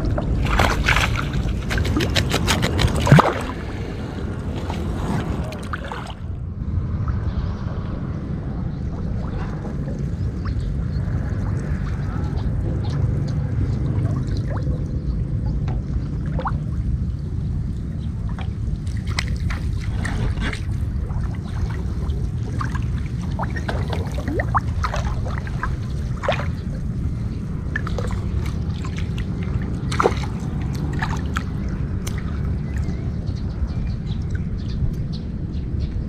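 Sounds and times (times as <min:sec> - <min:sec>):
water drips and splashes: 0:00.0 - 0:06.2, 0:08.9 - 0:35.1
water sloshing and trickling: 0:00.0 - 0:35.5
steady low rumble: 0:00.0 - 0:36.0.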